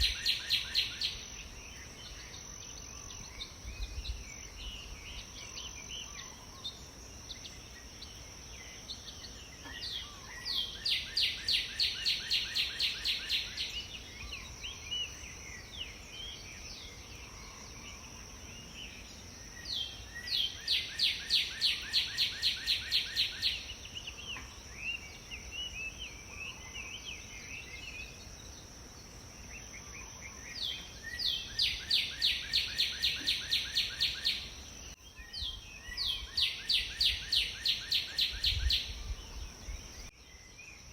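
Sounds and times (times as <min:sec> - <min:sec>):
soft bird chirps: 0:00.0 - 0:40.9
songbird singing repeated notes: 0:00.0 - 0:40.9.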